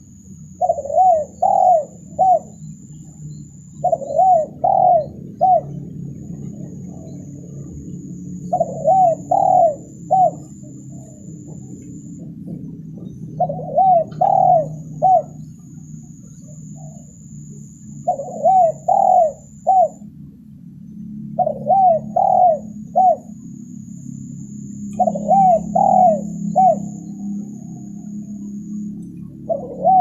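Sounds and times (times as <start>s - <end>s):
dove cooing: 0.0s - 20.0s, 21.4s - 30.0s.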